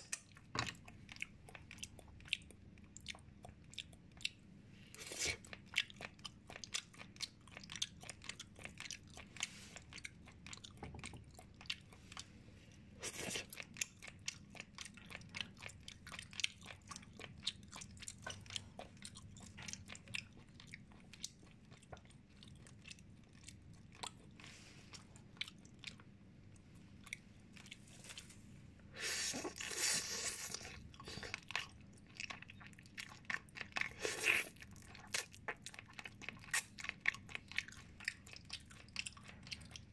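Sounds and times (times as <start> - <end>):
person chewing with wet clicks: 0.0 - 28.4, 29.3 - 39.9.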